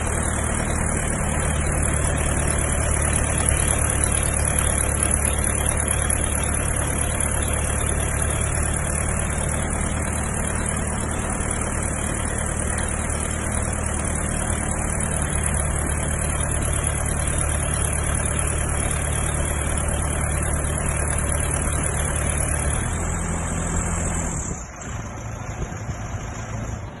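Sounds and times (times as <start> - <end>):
pile driving rig engine running: 0.0 - 27.0.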